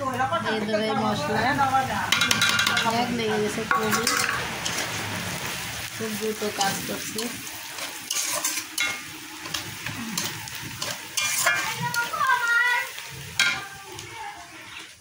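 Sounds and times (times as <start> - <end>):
oil sizzling in a pan: 0.0 - 15.0
stirring and scraping pan: 1.6 - 15.0.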